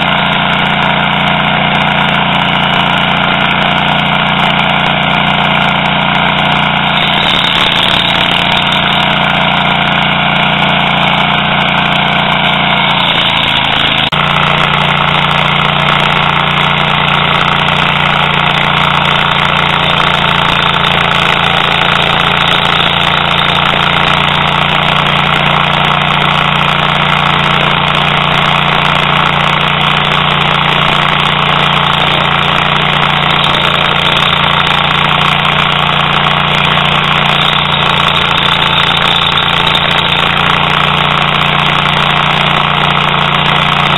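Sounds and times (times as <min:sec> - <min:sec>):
stump grinder engine running: 0:00.0 - 0:43.9.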